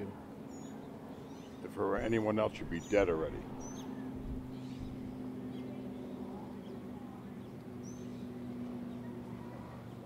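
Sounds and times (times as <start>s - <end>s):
low hum of held tones: 0.0s - 10.0s.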